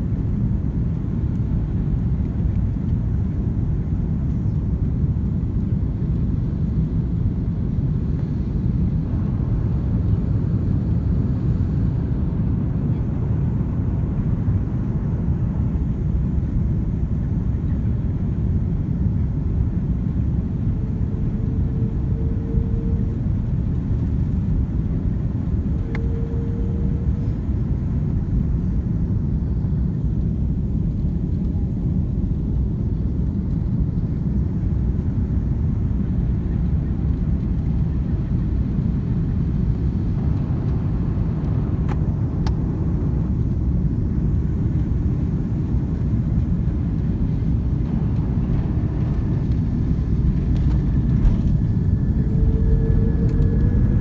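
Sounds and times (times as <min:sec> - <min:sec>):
aircraft engine and airflow rumble: 0:00.0 - 0:54.0.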